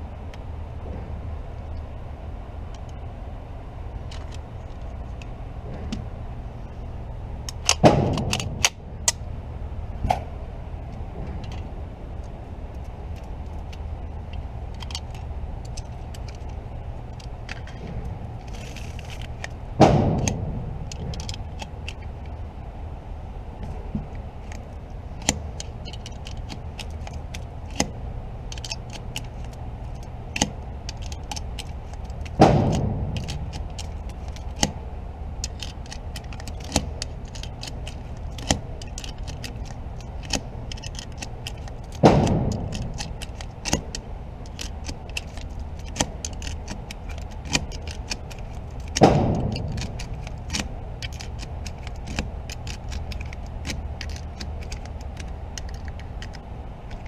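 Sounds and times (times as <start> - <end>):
metallic clicking and rattling: 4.0 - 9.3, 10.0 - 22.5, 23.6 - 57.0.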